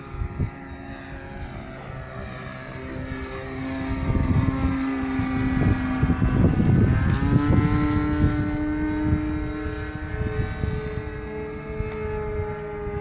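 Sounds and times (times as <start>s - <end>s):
model airplane engine buzzing: 0.0s - 13.0s
wind on microphone: 0.0s - 13.0s.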